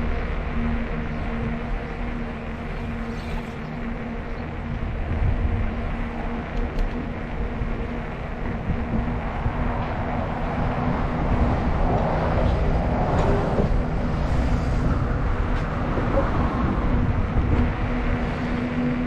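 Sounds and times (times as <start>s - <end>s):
bicycle road noise: 0.0s - 19.0s
wind rumble: 0.0s - 19.0s.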